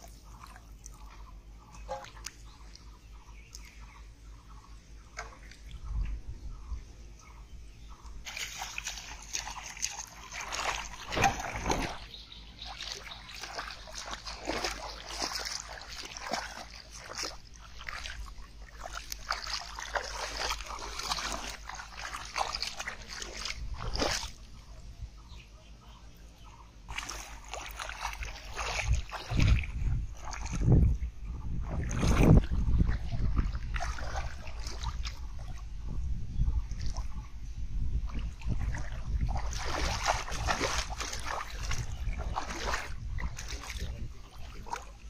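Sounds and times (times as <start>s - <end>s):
water splashing and sloshing: 0.0s - 45.0s.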